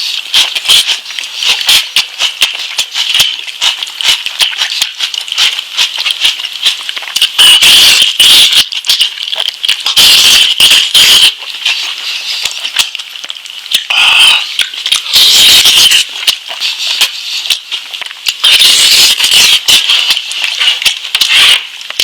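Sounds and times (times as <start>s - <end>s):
chewing with wet mouth sounds: 0.0s - 22.0s.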